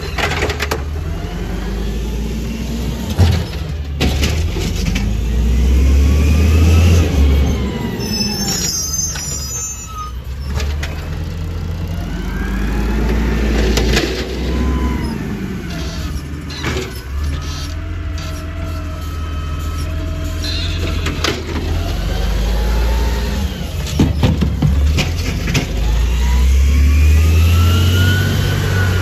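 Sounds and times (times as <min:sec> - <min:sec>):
garbage truck diesel engine revving: 0:00.0 - 0:09.2, 0:10.1 - 0:29.0
hydraulic arm and cart clanking: 0:00.0 - 0:29.0.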